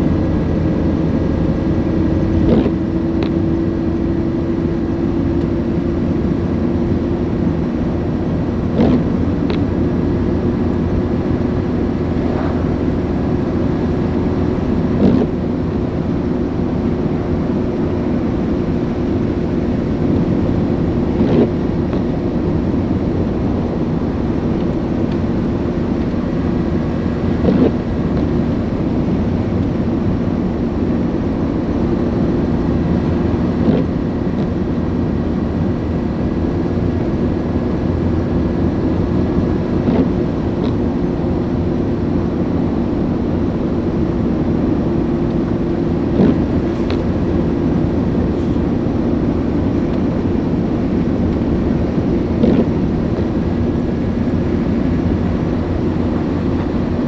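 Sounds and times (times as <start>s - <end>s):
car road and engine drone: 0.0s - 57.0s.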